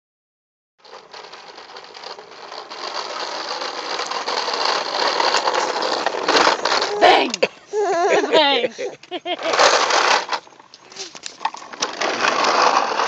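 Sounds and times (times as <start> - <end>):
plastic wheels rattling on concrete: 0.8 - 13.0.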